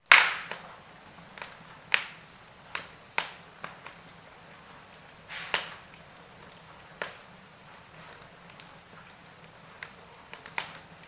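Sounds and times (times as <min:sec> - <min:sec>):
faint steady hiss: 0:00.0 - 0:11.0
wood fire crackling: 0:00.0 - 0:11.0.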